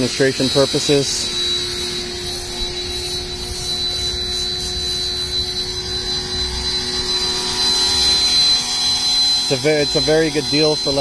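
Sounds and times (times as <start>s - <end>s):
pressure washer whining: 0.0s - 11.0s.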